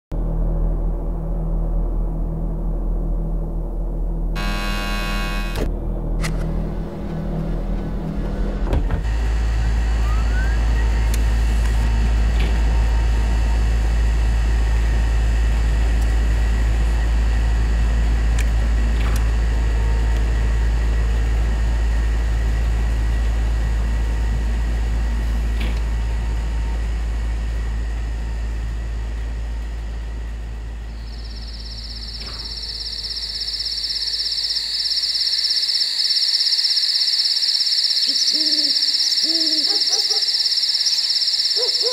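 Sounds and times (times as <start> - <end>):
deep steady rumble: 0.1 - 37.3.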